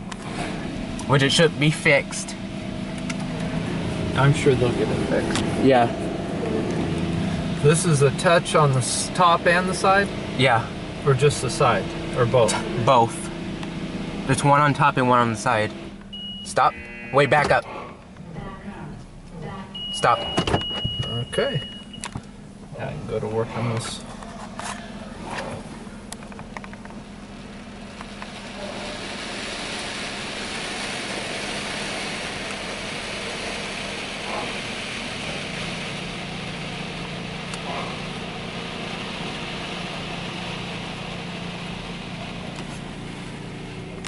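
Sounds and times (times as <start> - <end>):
water spray drumming on truck: 0.0 - 18.2, 25.2 - 44.0
low steady hum: 0.0 - 44.0.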